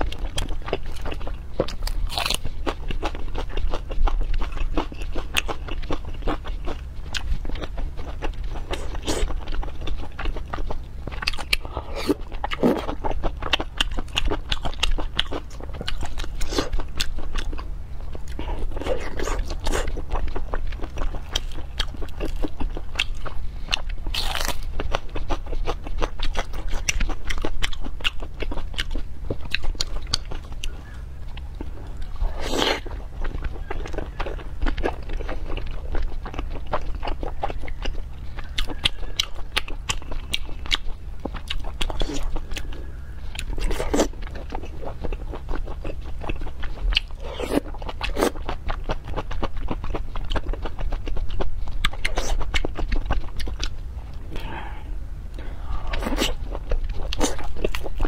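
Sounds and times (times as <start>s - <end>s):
chewing and mouth smacks: 0.0s - 58.0s.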